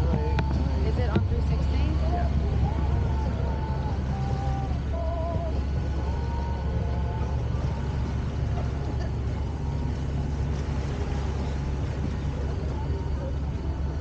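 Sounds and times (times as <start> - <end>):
boat engine humming: 0.0 - 14.0
faint voices: 0.0 - 14.0
wind and water rushing: 0.0 - 14.0.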